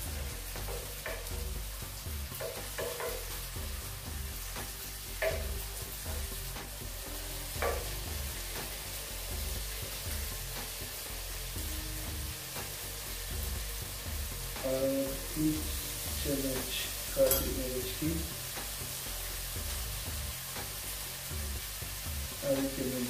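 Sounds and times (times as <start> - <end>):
sauce sizzling: 0.0 - 23.0.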